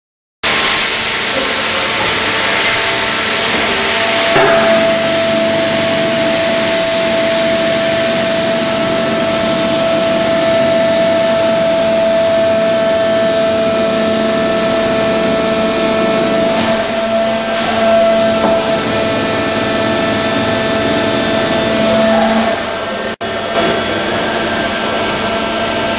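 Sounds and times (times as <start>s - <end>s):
bending machine mechanical drone: 0.4s - 25.9s
machine whine: 0.4s - 25.9s.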